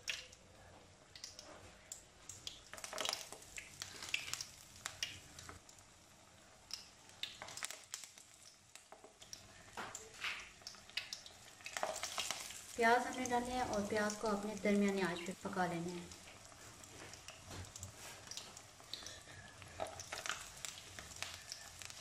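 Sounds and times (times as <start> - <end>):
deep-frying in hot oil: 0.0 - 22.0.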